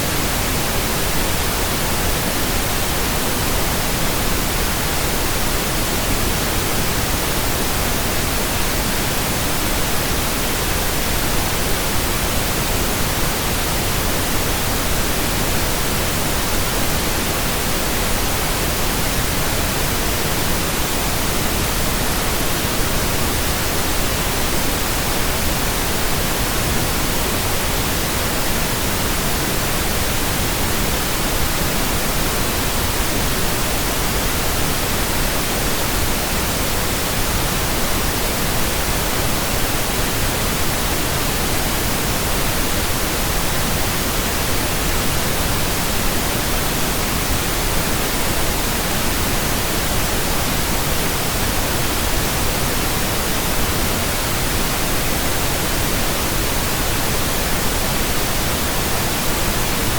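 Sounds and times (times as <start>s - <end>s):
synthesized pink noise hiss: 0.0s - 59.9s.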